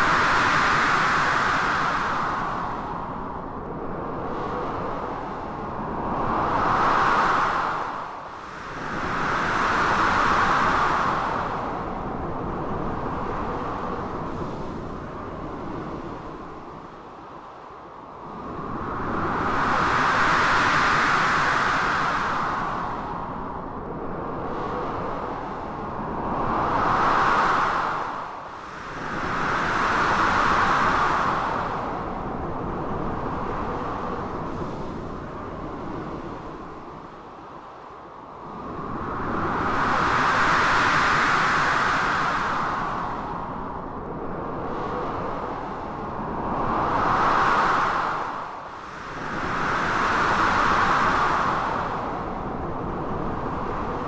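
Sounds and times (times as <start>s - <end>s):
blizzard wind: 0.0s - 54.0s.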